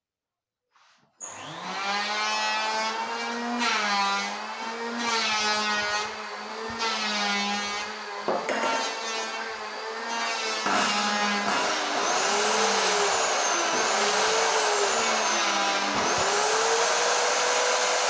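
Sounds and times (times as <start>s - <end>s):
table saw motor whining: 1.2s - 18.0s.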